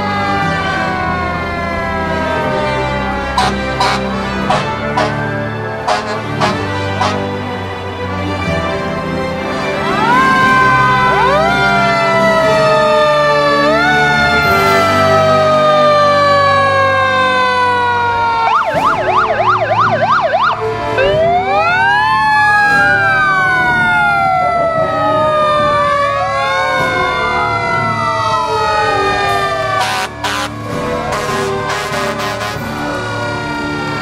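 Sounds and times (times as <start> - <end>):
emergency vehicle sirens wailing: 0.0 - 34.0.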